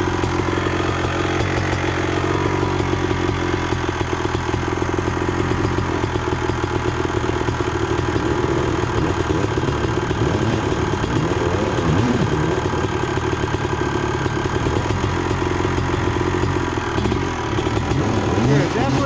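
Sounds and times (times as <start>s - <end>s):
two-stroke motorcycle engine idling: 0.0s - 19.0s.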